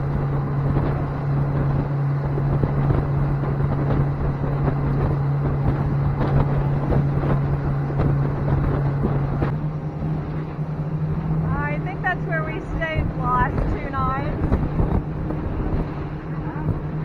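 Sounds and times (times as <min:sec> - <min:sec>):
boat engine droning: 0:00.0 - 0:17.0
wind buffeting microphone: 0:00.0 - 0:17.0.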